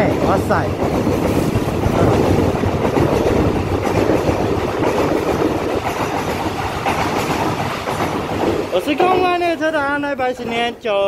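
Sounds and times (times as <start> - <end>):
train wheels rumbling on rails: 0.0 - 10.8.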